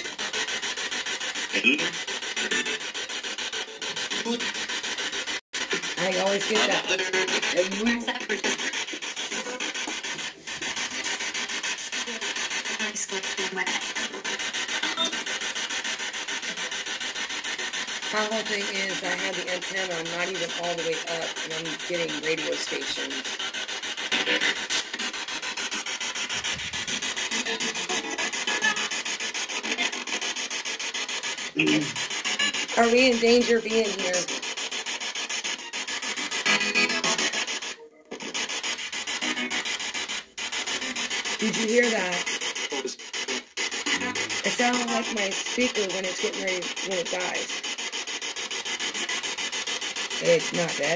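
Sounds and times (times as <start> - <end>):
choppy pulsing radio static: 0.0 - 0.5, 1.2 - 50.9
snatches of broadcast voices: 0.0 - 50.9.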